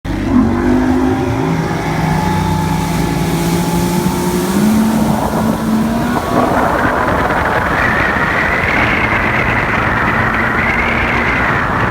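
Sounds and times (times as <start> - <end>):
outboard motor running: 0.0 - 11.9.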